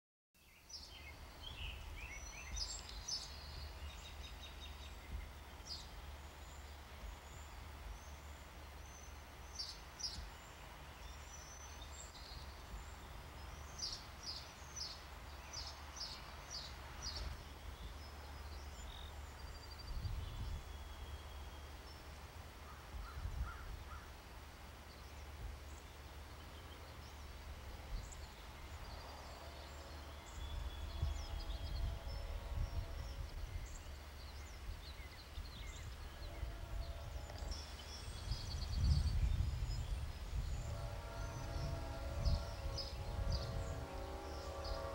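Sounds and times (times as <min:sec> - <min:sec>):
songbirds chirping: 0:00.4 - 0:44.9
low outdoor rumble: 0:01.1 - 0:44.9.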